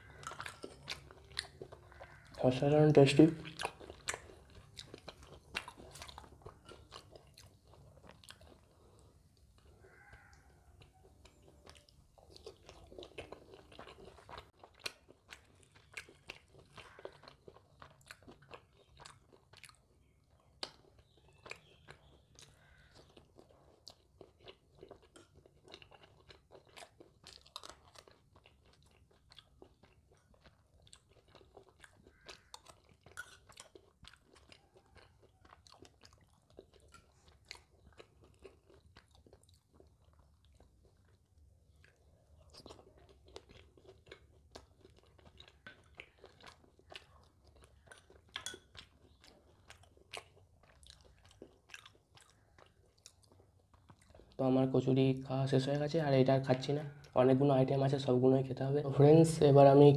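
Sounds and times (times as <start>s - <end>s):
crunchy chewing: 0.0s - 54.4s.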